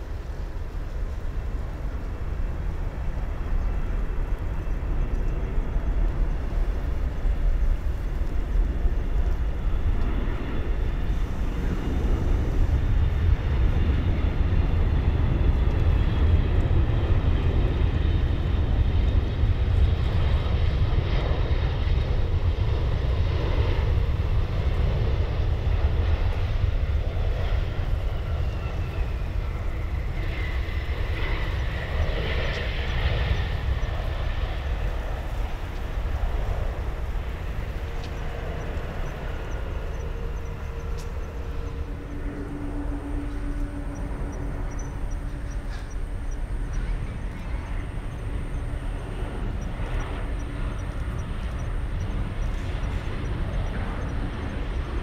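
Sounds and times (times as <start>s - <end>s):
jet engine rumble: 0.0s - 55.0s
thin jet engine whine: 0.0s - 55.0s.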